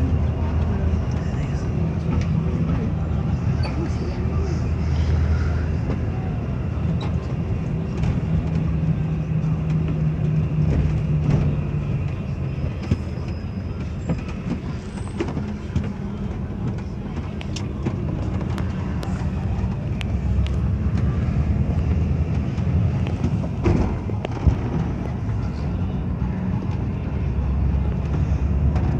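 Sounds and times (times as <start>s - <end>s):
bus engine drone: 0.0s - 28.9s
road noise: 0.0s - 28.9s.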